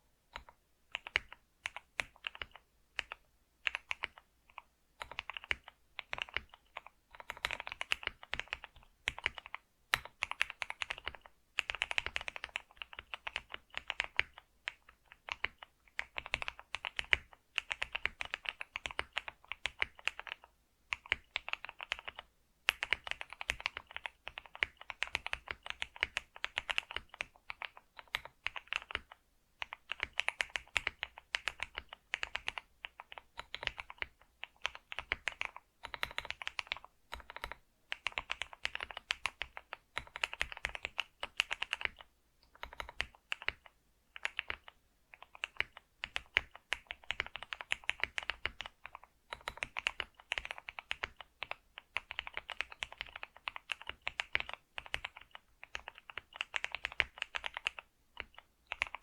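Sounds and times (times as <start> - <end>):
keyboard typing clicks: 0.3 - 59.0.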